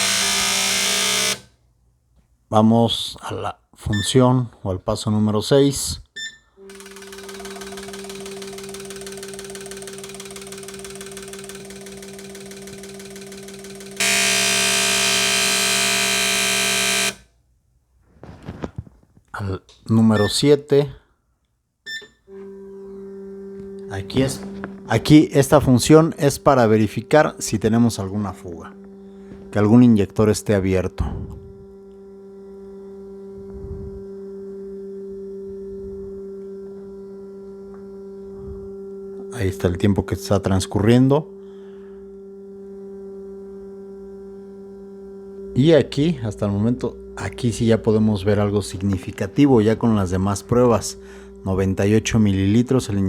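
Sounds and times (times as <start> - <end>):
fuel injectors buzzing: 0.0 - 1.5, 6.6 - 17.3, 22.2 - 53.0
loud hissy buzz: 0.0 - 1.5, 6.6 - 17.2, 22.5 - 53.0
steady hum: 0.0 - 1.5, 6.6 - 17.2, 22.2 - 53.0.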